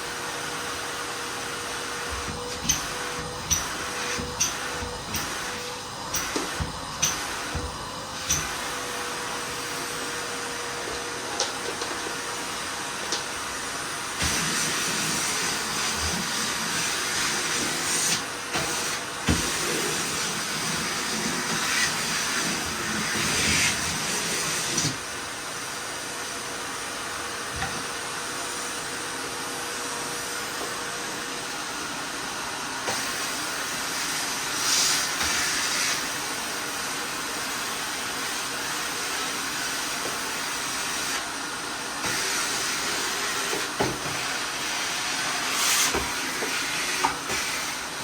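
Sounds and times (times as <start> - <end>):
vacuum cleaner suction hiss: 0.0 - 48.0.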